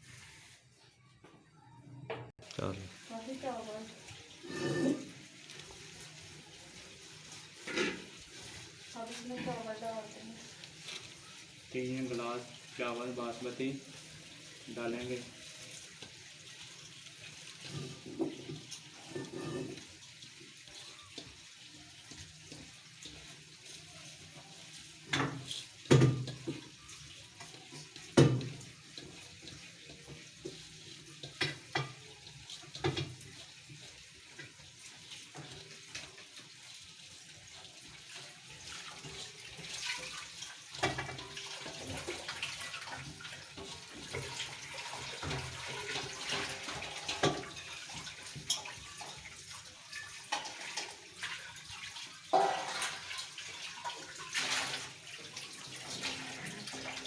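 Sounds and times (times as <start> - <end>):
water bubbling in a cooking pot: 2.4 - 57.0.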